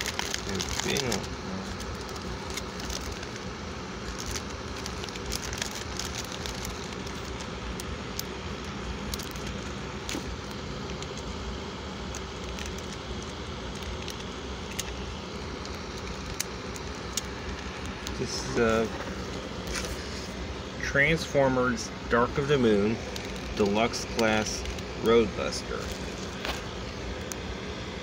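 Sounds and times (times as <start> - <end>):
plastic bag crackling: 0.0 - 11.3, 12.0 - 20.2, 22.7 - 27.4.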